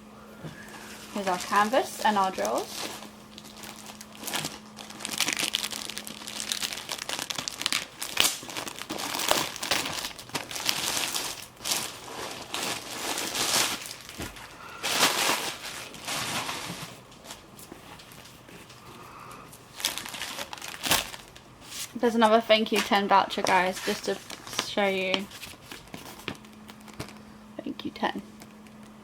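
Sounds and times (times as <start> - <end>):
plastic packaging crinkling: 0.6 - 18.9, 19.6 - 29.0.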